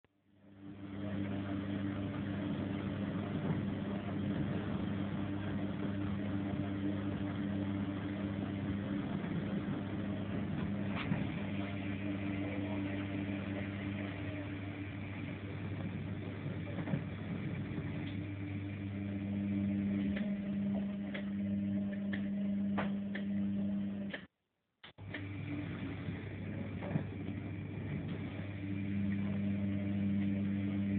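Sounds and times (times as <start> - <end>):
washing machine running: 0.4 - 24.3, 25.0 - 30.9.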